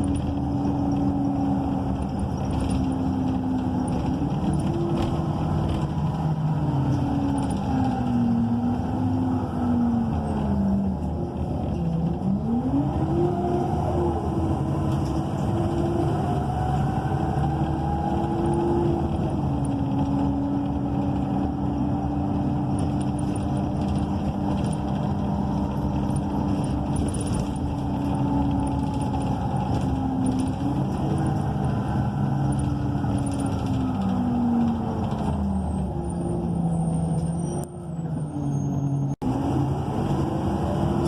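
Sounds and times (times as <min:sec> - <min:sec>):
bus engine humming: 0:00.0 - 0:41.0
road noise: 0:00.0 - 0:41.0.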